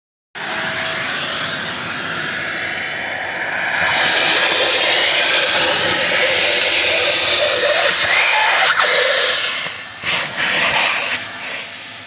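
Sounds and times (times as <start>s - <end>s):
vacuum cleaner running: 0.4s - 12.0s.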